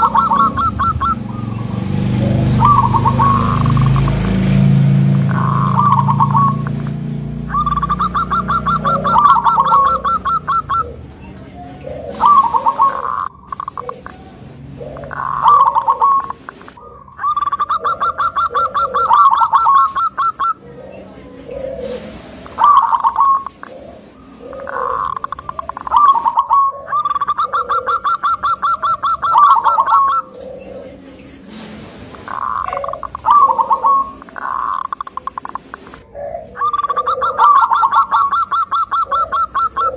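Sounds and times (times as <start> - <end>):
dove cooing in staccato notes: 0.0 - 39.9.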